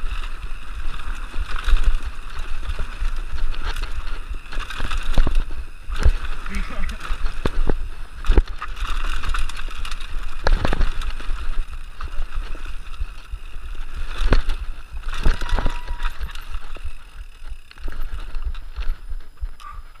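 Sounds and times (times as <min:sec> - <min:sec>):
bike rattling and knocking: 0:00.0 - 0:20.0
tyres rolling over dirt: 0:00.0 - 0:20.0.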